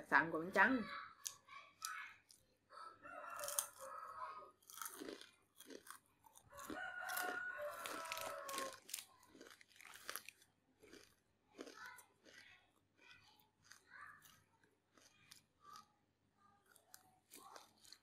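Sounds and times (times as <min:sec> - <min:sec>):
crunching and chewing food: 0:00.9 - 0:18.0.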